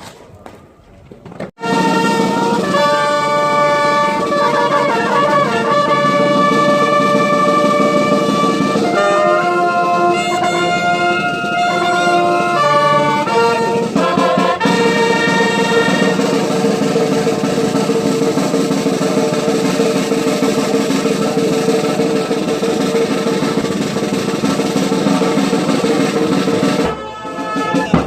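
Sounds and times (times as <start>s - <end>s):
brass band playing slow chords: 1.6s - 28.0s.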